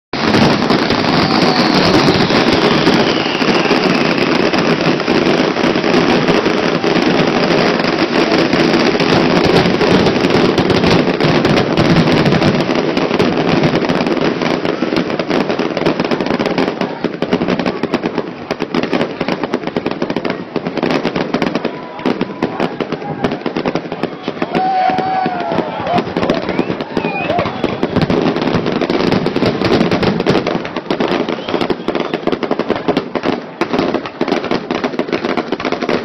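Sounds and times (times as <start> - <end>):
falling firework whistle: 0.2 - 18.2, 20.1 - 36.0
fireworks bangs and crackling: 0.2 - 36.0.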